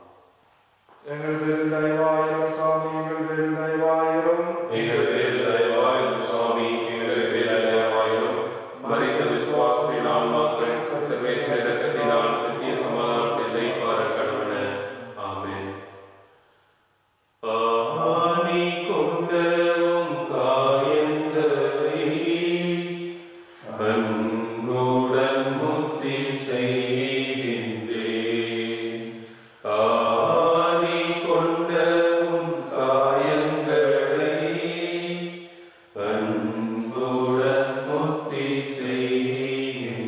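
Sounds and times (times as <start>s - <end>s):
slow devotional chant: 0.0s - 16.8s, 17.4s - 40.0s.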